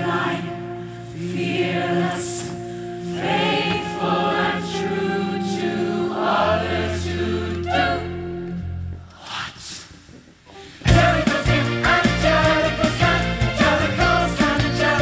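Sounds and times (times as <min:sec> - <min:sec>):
musical accompaniment with bass: 0:00.0 - 0:09.2, 0:10.6 - 0:15.0
ensemble singing in chorus: 0:00.0 - 0:09.7, 0:10.8 - 0:15.0.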